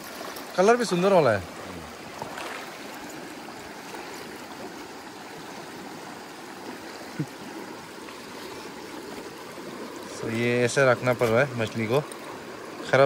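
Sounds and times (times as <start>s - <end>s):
mountain stream flowing: 0.0s - 13.0s.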